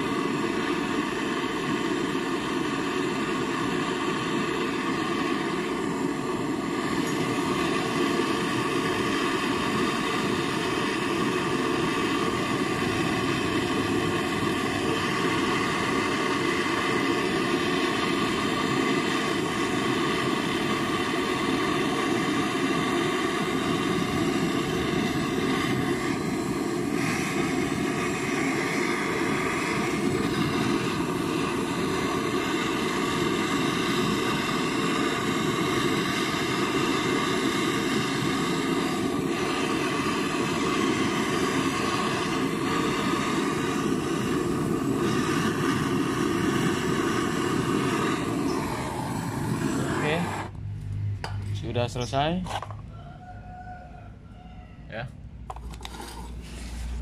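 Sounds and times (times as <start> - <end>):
gas torch hissing: 0.0 - 54.2, 55.5 - 57.0.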